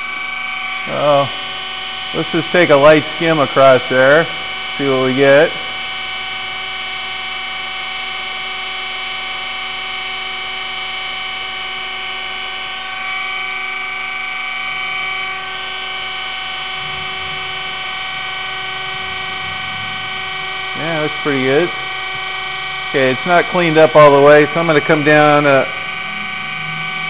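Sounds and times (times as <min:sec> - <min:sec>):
grinder whine: 0:00.0 - 0:27.0
grinding hiss: 0:00.6 - 0:27.0.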